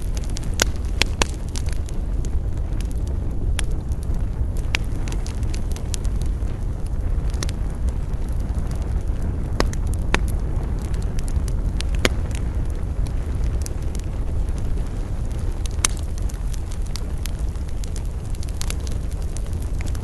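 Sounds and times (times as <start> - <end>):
campfire crackling pops: 0.0 - 20.0
low rumble of fire: 0.0 - 20.0.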